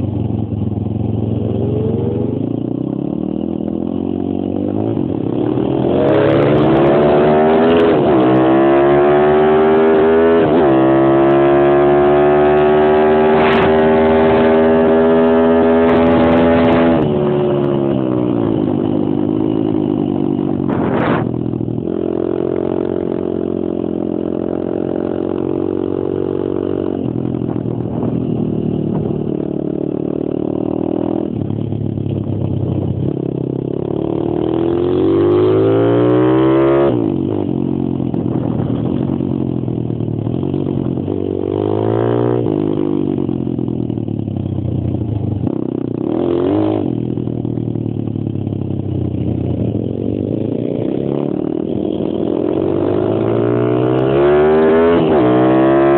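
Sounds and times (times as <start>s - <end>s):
motorbike engine revving: 0.0s - 44.1s, 45.2s - 55.9s.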